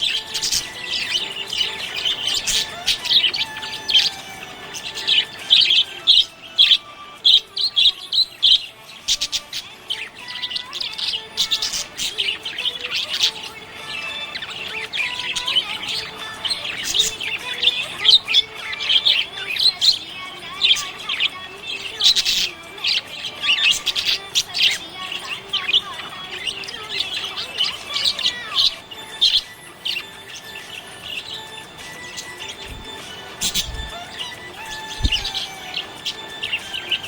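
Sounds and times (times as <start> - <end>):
budgerigar chirping and warbling: 0.0 - 37.0.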